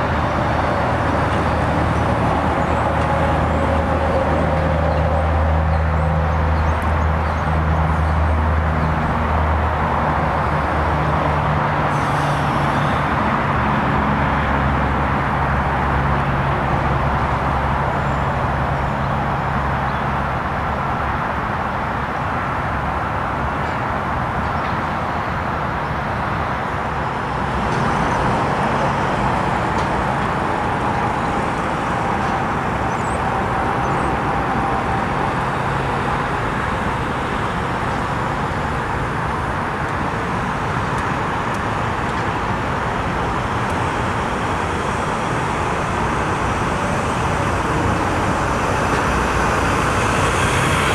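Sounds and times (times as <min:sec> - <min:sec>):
road traffic: 0:00.0 - 0:50.9
truck and machinery engines rumbling: 0:00.0 - 0:50.9.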